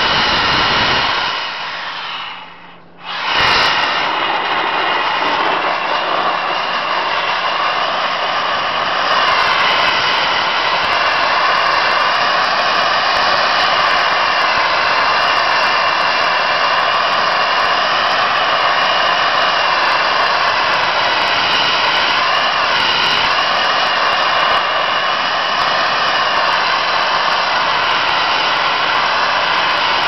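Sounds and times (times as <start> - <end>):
sandblaster hissing: 0.0 - 30.0.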